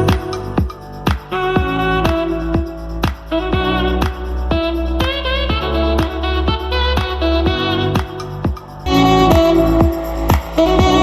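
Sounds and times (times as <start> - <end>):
music from portable speaker: 0.0 - 11.0
kick drum: 0.1 - 11.0.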